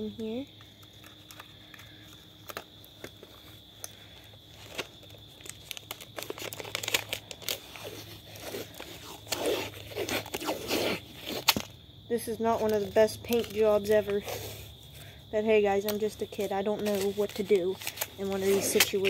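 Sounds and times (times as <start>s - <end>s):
tape crackling and ripping: 0.8s - 11.8s, 12.5s - 14.7s, 15.8s - 19.0s.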